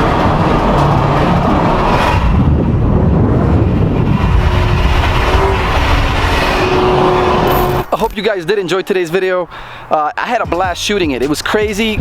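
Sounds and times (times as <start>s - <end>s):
car engine rumbling: 0.0s - 9.9s
road noise: 0.0s - 12.0s.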